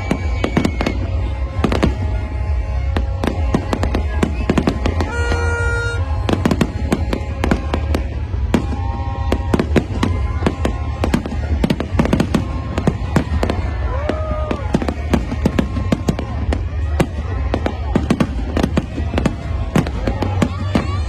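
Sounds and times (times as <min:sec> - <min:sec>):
continuous low rumble: 0:00.0 - 0:21.0
fireworks bangs and crackles: 0:00.0 - 0:21.0.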